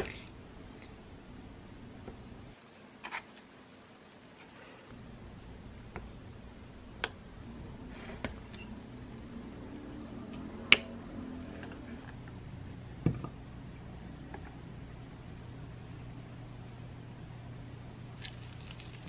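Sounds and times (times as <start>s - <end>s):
steady low hum: 0.0s - 2.8s, 3.7s - 19.0s.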